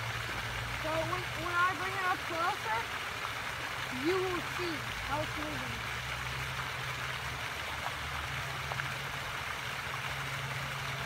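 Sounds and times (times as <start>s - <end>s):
fountain splashing: 0.0s - 11.0s.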